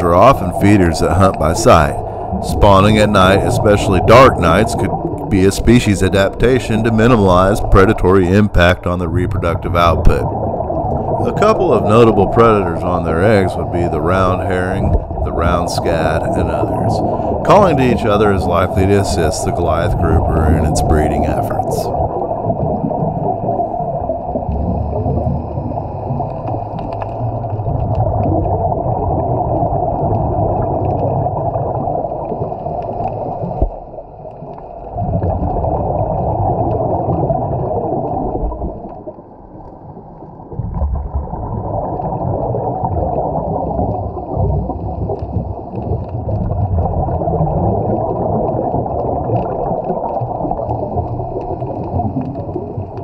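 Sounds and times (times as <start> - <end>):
underwater rumble and gurgling: 0.0 - 53.0.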